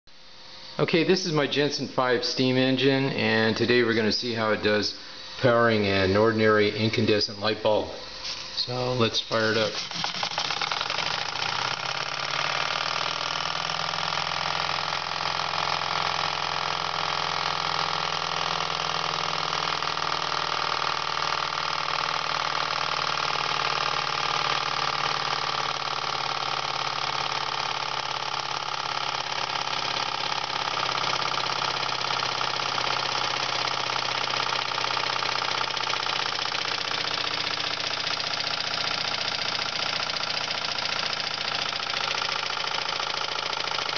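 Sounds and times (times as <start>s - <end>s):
generator hum: 0.1s - 43.9s
toy steam engine hissing: 8.0s - 43.9s.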